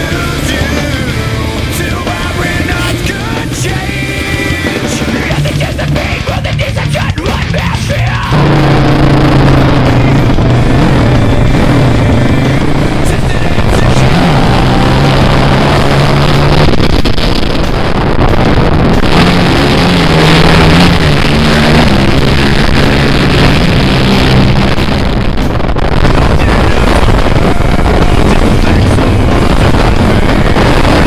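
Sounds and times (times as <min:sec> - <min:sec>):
quad engines revving: 0:00.0 - 0:31.0.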